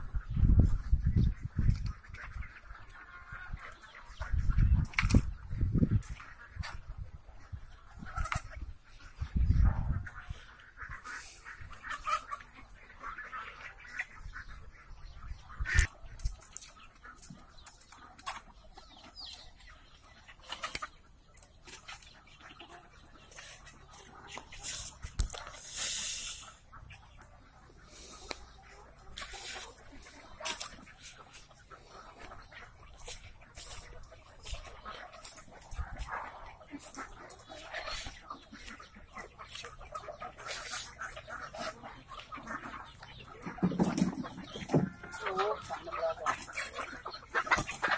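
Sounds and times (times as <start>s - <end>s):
chickens clucking faintly: 0.0s - 47.9s.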